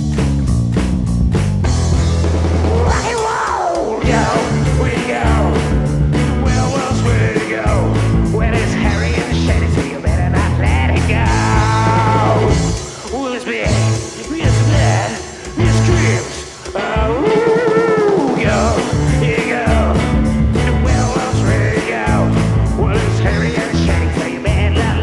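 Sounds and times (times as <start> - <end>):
rock song with singing: 1.7 - 25.0.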